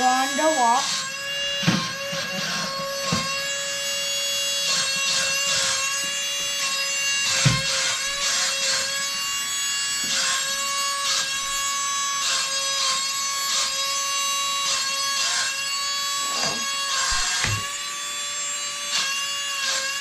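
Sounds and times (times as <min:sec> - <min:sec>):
suction fan high whine: 0:00.0 - 0:18.9.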